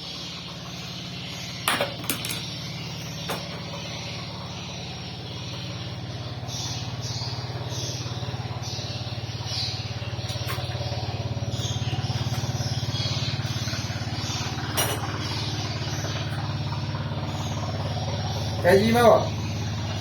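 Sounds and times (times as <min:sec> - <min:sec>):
low engine-like hum: 0:00.0 - 0:20.0.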